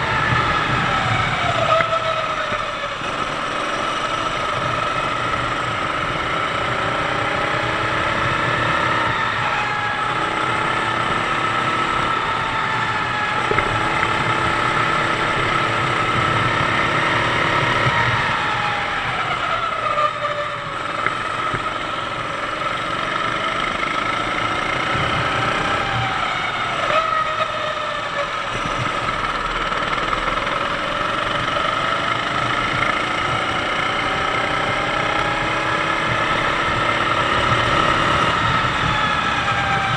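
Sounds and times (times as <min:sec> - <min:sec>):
kart engine at racing speed: 0:00.0 - 0:39.9.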